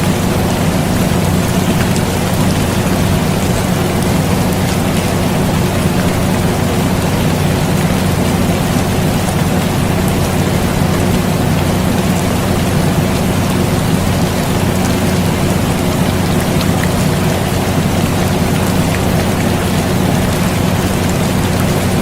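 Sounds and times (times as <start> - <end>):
air conditioner hum: 0.0 - 22.0
rain: 0.0 - 22.0.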